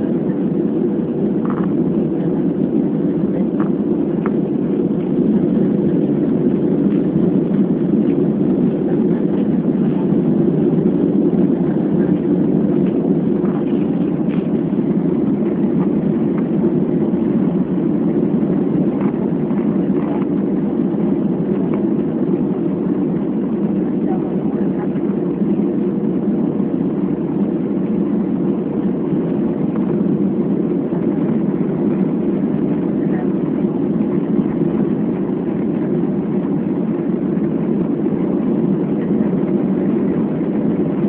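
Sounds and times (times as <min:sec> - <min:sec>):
aircraft engine rumble: 0:00.0 - 0:41.0.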